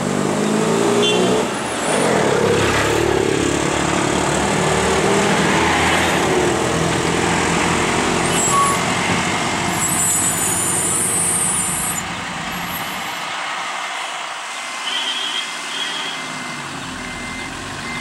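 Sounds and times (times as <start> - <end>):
lorry diesel engine under load: 1.4 - 14.8, 15.6 - 18.0.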